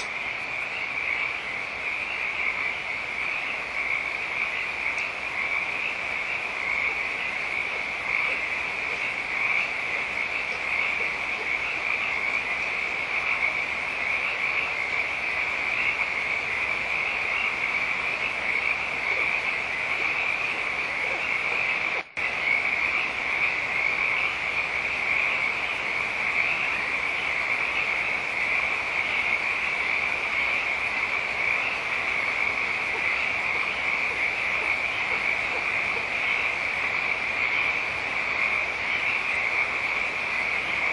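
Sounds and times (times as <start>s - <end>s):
chorus of calling animals: 0.0s - 40.9s.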